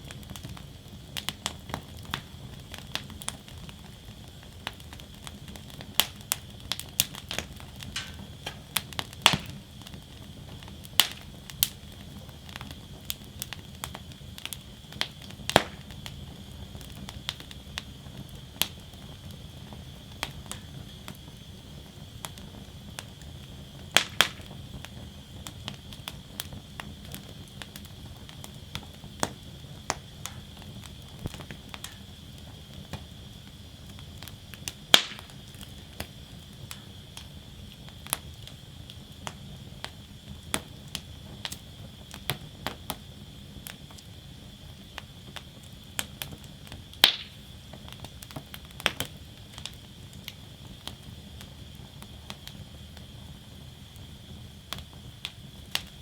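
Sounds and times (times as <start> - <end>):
faint hiss: 0.0 - 56.0
wood fire crackling and popping: 0.0 - 56.0.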